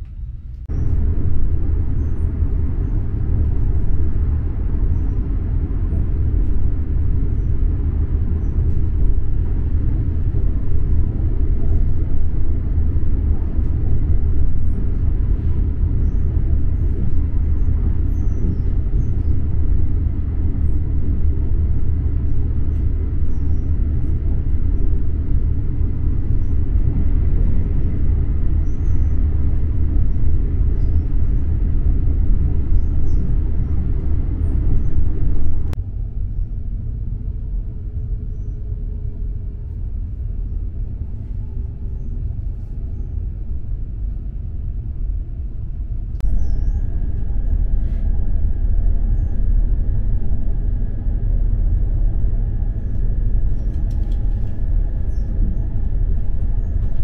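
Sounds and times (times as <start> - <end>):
train rumble from inside carriage: 0.0 - 57.0.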